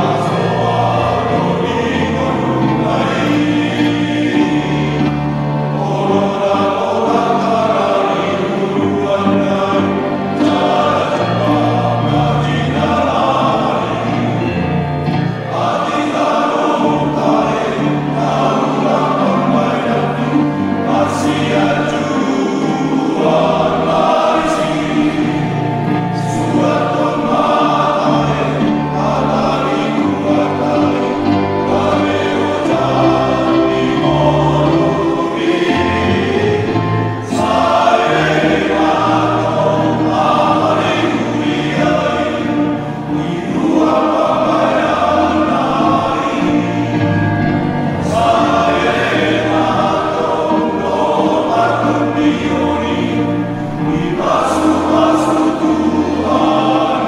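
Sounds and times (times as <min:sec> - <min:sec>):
electronic keyboard: 0:00.0 - 0:57.0
men's choir singing a hymn: 0:00.0 - 0:57.0.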